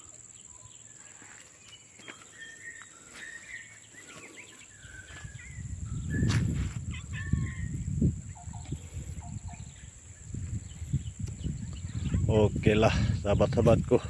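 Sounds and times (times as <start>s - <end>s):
birds chirping: 0.0s - 14.0s
high insect drone: 0.0s - 14.0s.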